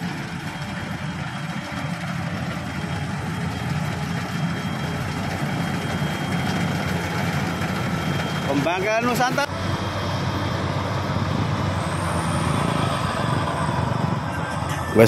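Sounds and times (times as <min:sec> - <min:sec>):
small motorcycle engine droning: 0:00.0 - 0:15.0.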